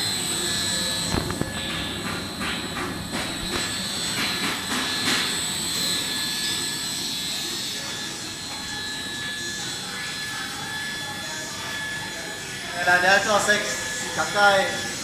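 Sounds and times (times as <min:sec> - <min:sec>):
welding machine high whine: 0:00.0 - 0:15.0.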